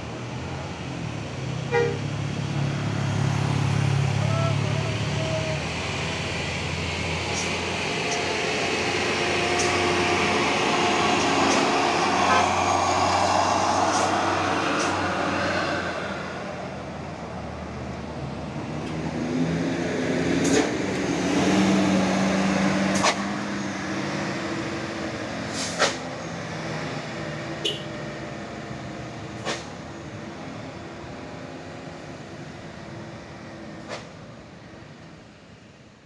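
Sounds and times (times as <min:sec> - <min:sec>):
bus diesel engine pulling hard: 0:00.0 - 0:36.0.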